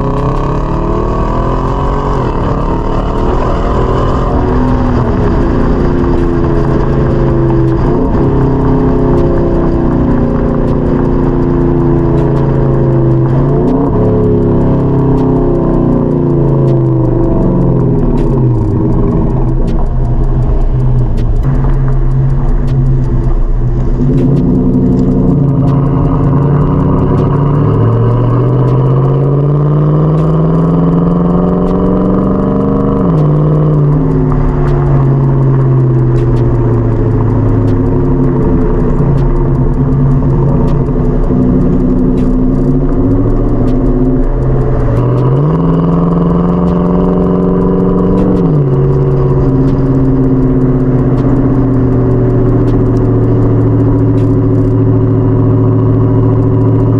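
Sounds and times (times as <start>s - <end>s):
truck engine exhaust while driving: 0.0s - 56.9s.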